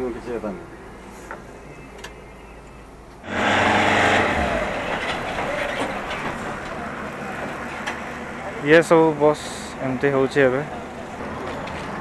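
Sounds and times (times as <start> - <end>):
bus engine: 0.0 - 12.0.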